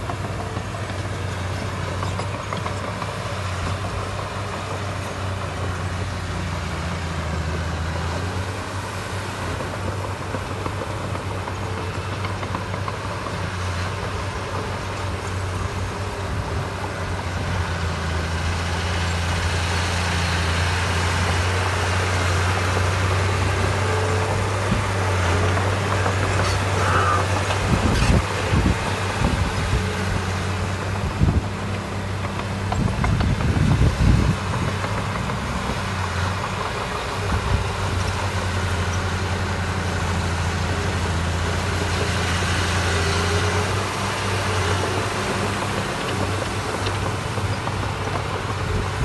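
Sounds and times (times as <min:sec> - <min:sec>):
diesel engine droning: 0:00.0 - 0:49.0.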